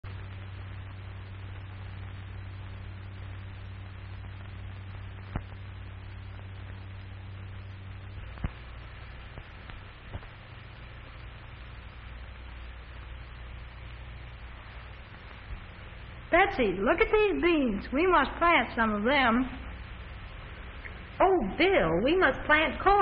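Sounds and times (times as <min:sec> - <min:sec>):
old film soundtrack hiss and hum: 0:00.0 - 0:23.0.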